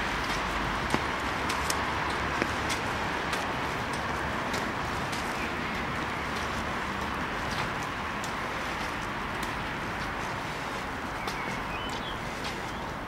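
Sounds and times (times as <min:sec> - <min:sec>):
footsteps on wet deck: 0:00.0 - 0:13.0
river water running: 0:00.0 - 0:13.0.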